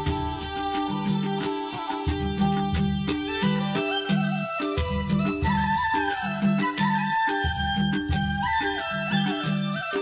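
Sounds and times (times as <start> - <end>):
instrumental music with steady beat: 0.0 - 10.0.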